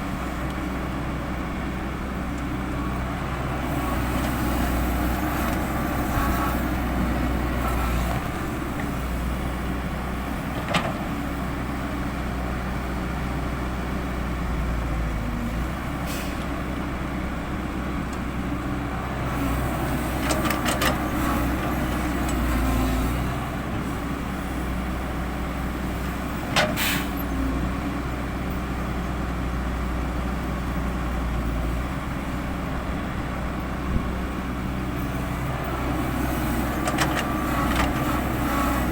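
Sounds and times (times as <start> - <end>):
diesel earthmoving machinery: 0.0 - 38.9.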